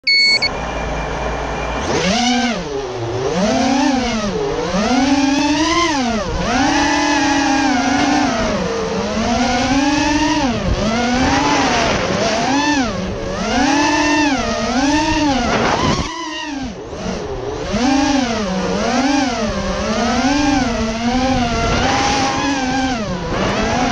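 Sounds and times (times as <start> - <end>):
drone motors whining: 0.0 - 23.9.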